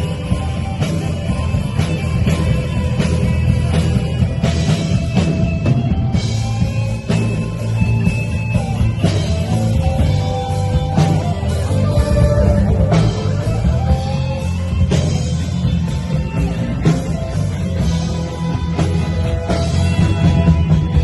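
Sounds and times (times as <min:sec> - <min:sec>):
rock music: 0:00.0 - 0:21.0.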